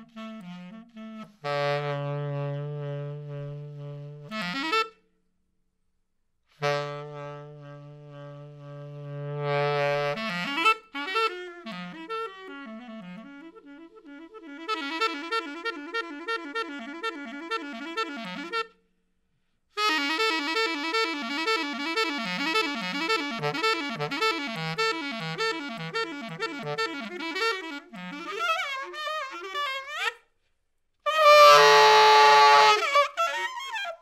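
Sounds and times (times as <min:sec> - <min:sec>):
alto saxophone solo: 0:00.0 - 0:05.0, 0:06.5 - 0:18.8, 0:19.7 - 0:30.3, 0:31.0 - 0:34.0.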